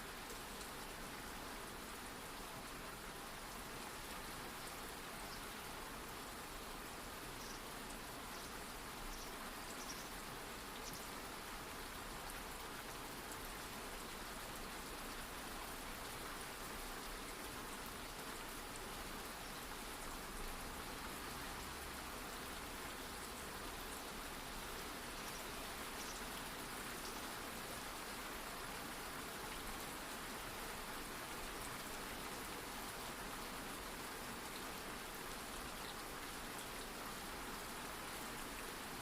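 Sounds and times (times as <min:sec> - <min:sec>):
light rain falling: 0:00.0 - 0:39.0.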